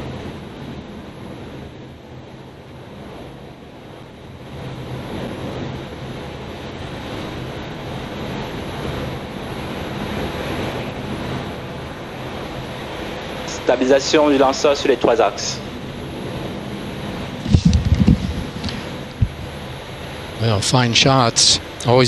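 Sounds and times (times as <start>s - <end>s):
rocket engines rushing: 0.0s - 22.0s.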